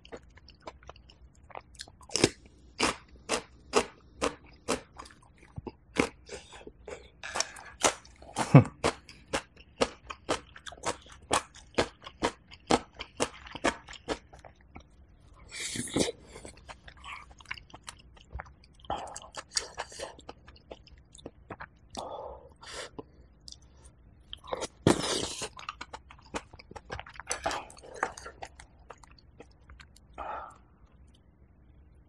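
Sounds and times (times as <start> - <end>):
wet chewing clicks and smacks: 0.0 - 15.0, 16.4 - 22.0, 23.0 - 30.2.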